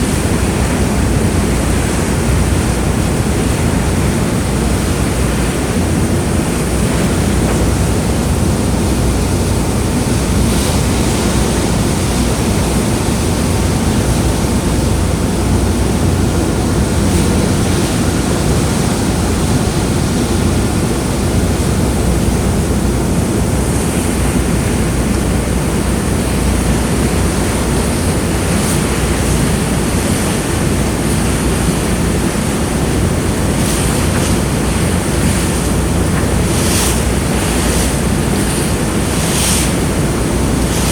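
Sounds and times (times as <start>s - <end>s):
rushing water: 0.0s - 40.9s
wind on microphone: 0.0s - 40.9s.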